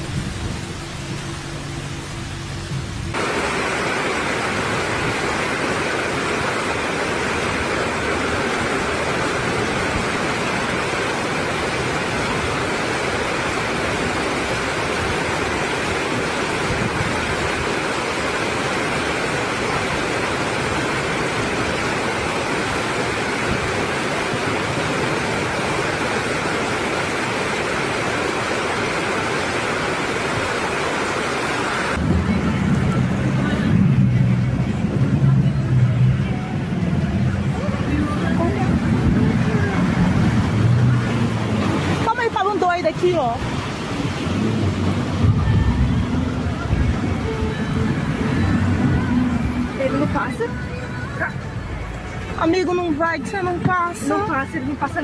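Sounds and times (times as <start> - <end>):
floodwater rushing: 0.0 - 55.0
torrential rain: 0.0 - 55.0.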